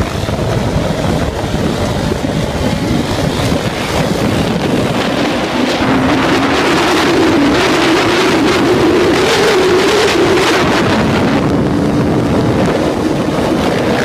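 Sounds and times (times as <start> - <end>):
dirt bike engine accelerating: 0.0 - 14.0
wind buffeting microphone: 0.0 - 14.0.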